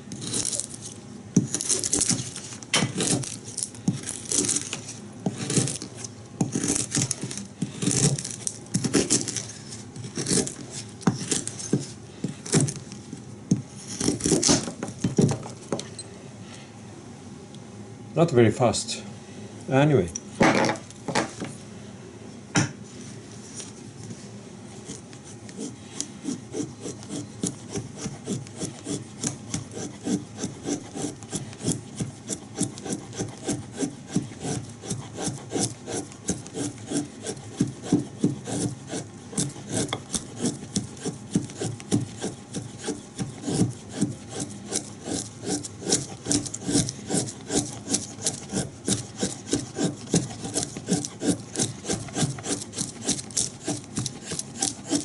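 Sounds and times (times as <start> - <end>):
knife shaving wood: 0.0 - 15.4, 24.7 - 55.0.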